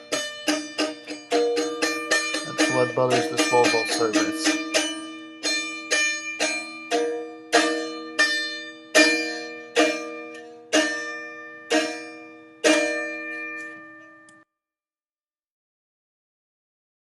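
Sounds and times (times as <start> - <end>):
slow plucked-string music: 0.0 - 14.4.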